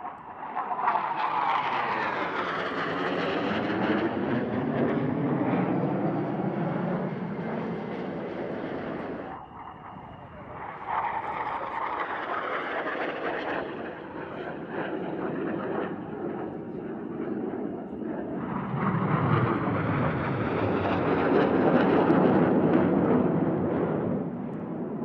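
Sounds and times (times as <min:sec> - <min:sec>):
jet engine rushing: 0:00.0 - 0:25.0.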